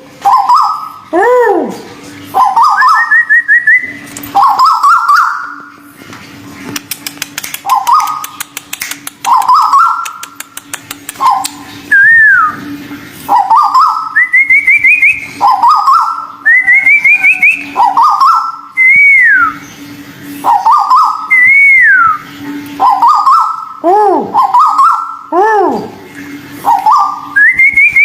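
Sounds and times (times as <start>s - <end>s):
bird calling and whistling: 0.2s - 5.8s, 7.4s - 26.0s, 26.6s - 28.0s.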